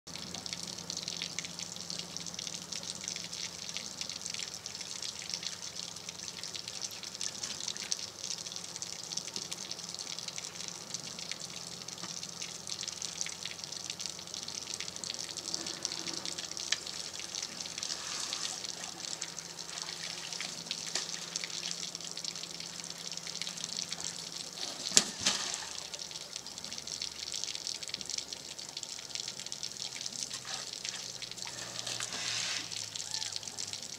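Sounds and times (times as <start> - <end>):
faint low hum: 0.1 - 33.9
water trickling and splashing: 0.1 - 33.9.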